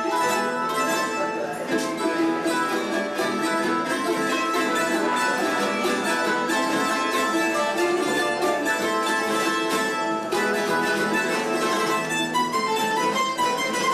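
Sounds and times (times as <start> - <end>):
plucked string trio melody: 0.0 - 13.9.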